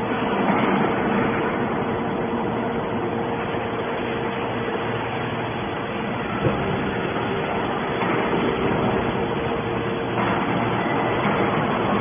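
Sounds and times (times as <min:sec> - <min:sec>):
baler mechanical noise: 0:00.0 - 0:12.0
hydraulic unit hum: 0:00.0 - 0:12.0.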